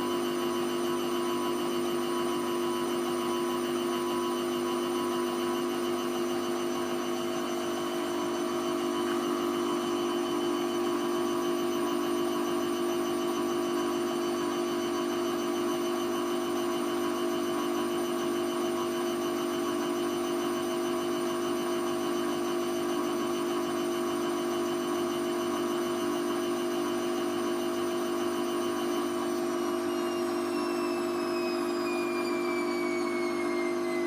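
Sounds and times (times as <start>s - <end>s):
washing machine spinning: 0.0s - 34.0s.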